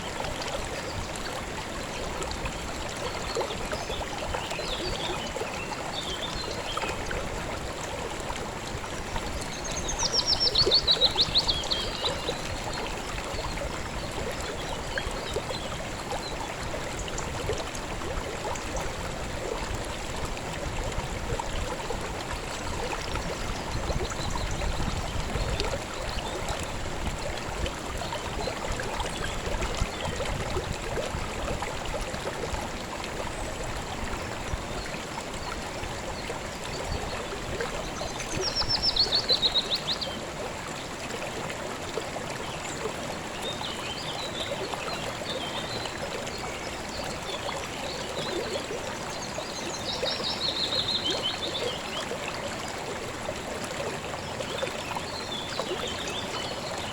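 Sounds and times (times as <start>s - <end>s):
river water flowing: 0.0s - 56.9s.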